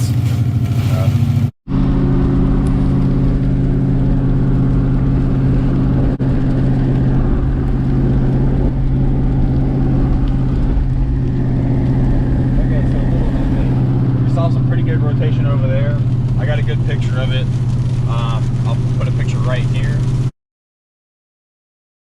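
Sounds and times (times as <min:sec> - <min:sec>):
car engine drone: 0:00.0 - 0:20.3
road noise: 0:00.0 - 0:20.3.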